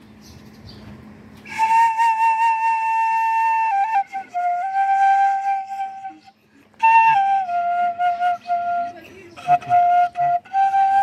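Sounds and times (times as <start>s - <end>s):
bamboo flute held notes: 1.4s - 11.0s.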